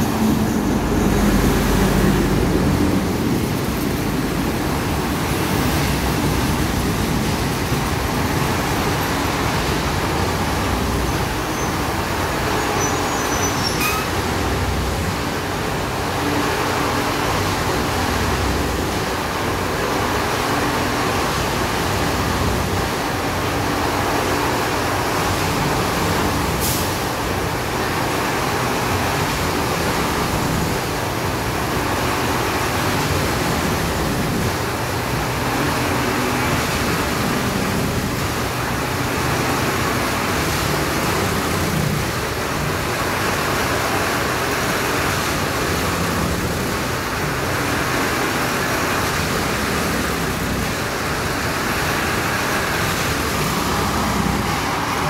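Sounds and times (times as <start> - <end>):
diesel engine rumble: 0.0 - 55.0.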